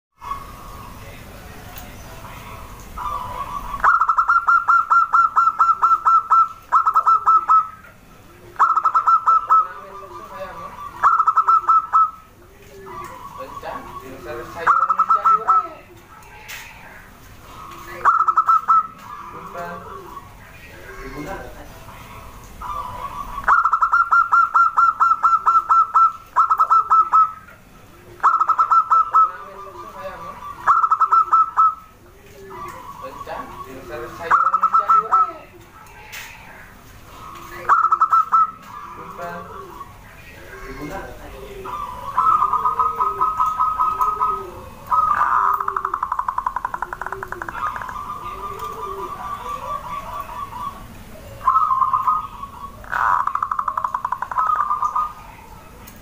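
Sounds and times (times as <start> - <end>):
dove cooing: 0.2 - 1.4, 2.1 - 56.0.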